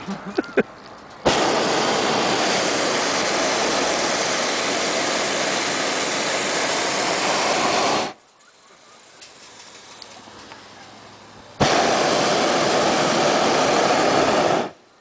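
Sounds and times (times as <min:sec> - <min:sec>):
propane burner roaring: 0:00.0 - 0:15.0.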